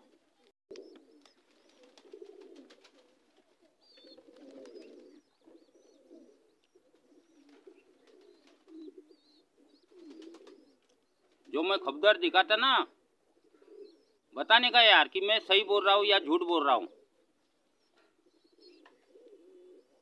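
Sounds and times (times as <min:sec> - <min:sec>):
pigeons cooing: 0:00.0 - 0:14.9, 0:16.4 - 0:20.0.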